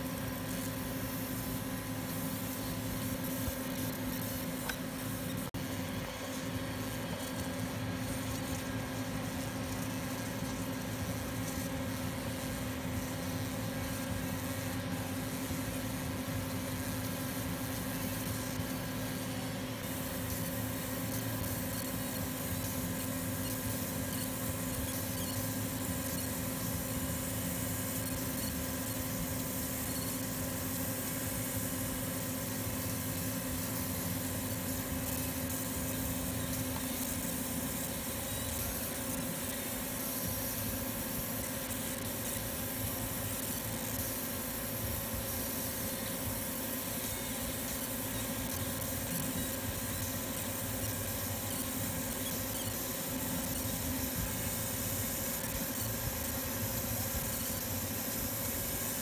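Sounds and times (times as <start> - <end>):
laser engraver machine hum: 0.0 - 59.0.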